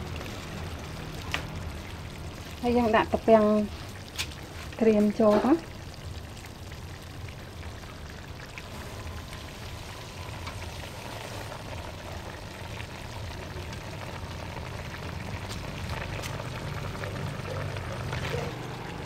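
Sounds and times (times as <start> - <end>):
sauce simmering and bubbling: 0.0 - 19.0.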